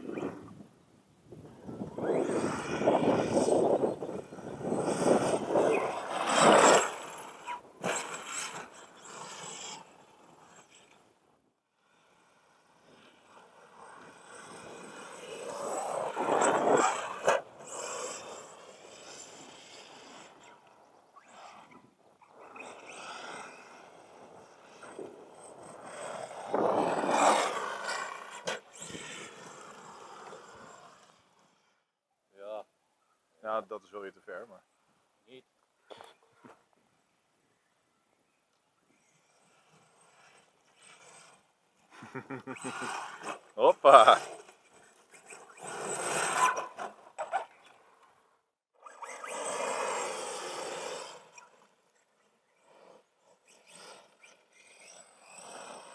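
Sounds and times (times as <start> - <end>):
electric rc buggy driving on dirt: 0.0 - 31.9, 35.9 - 55.9.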